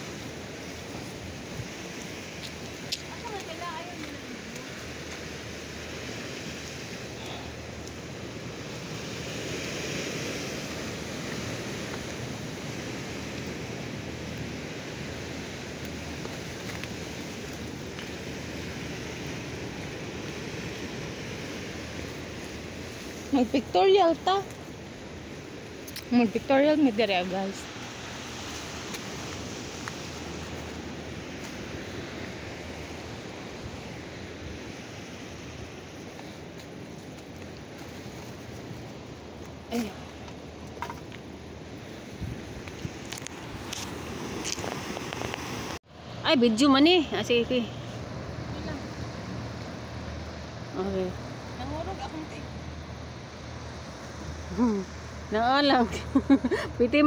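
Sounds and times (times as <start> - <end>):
wind on microphone: 0.0 - 45.8
sea surf on rocky shore: 0.0 - 57.0.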